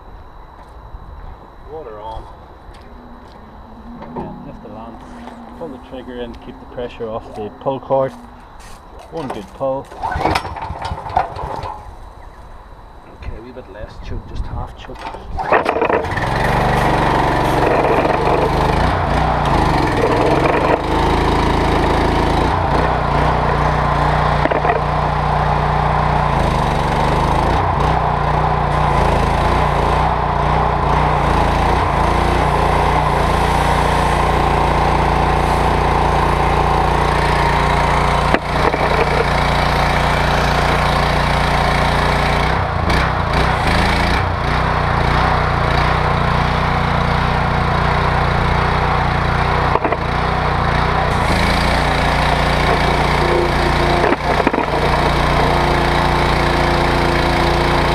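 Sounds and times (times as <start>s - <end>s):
pressure washer engine running: 3.2s - 12.0s, 15.4s - 57.9s.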